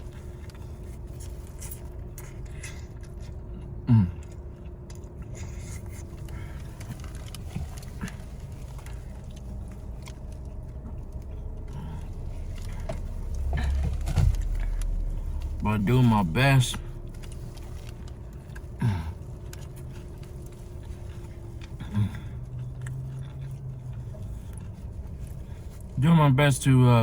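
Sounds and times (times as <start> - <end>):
person chewing food: 0.0 - 15.6, 16.7 - 26.0
steady low hum: 0.0 - 27.0.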